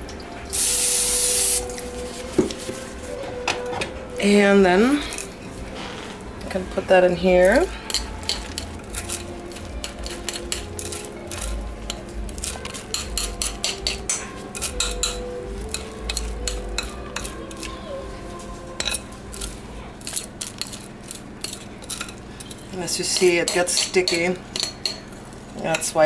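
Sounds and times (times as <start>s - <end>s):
sticky mixture scraping dishes: 4.9s - 26.0s.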